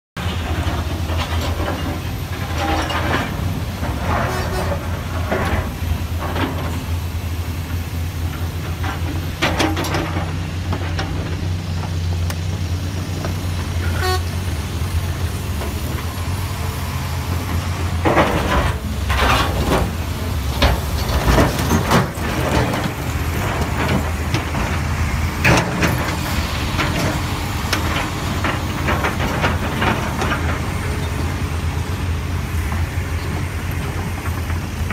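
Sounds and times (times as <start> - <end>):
excavator diesel engine: 0.2 - 34.9.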